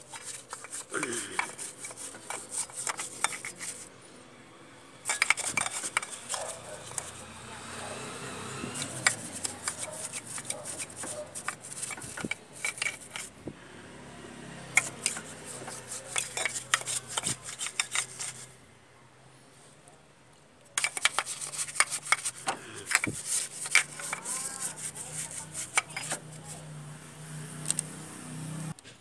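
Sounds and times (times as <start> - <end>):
paintbrush scrubbing metal gears: 0.0 - 3.9, 5.0 - 13.4, 14.7 - 18.6, 20.8 - 28.0.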